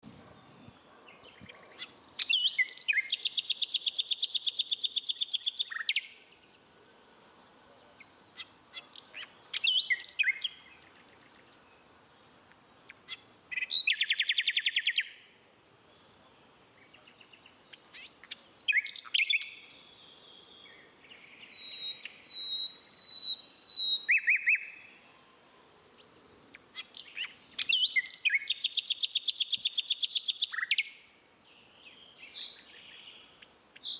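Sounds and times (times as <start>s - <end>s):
songbird chirping and trilling: 0.0s - 7.0s, 7.8s - 33.9s.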